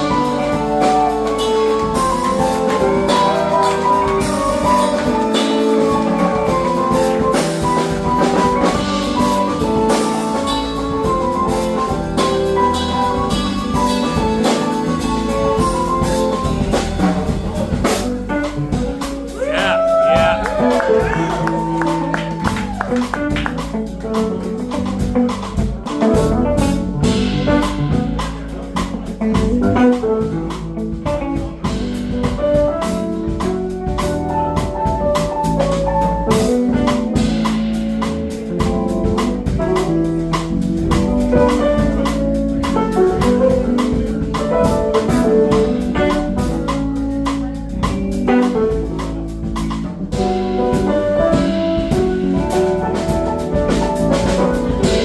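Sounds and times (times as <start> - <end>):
bass: 0.0 - 55.0
drum kit: 0.0 - 55.0
guitar: 0.0 - 55.0.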